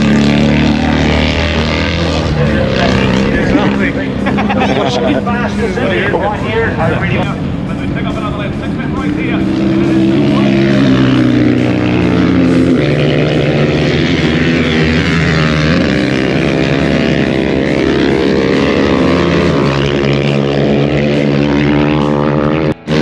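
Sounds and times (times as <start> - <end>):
racing motorcycle engines revving: 0.0 - 23.0.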